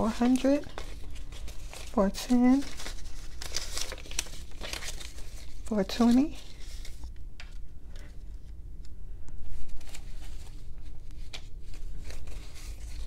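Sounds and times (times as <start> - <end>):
banknotes rustling: 0.0 - 8.5, 9.4 - 13.0.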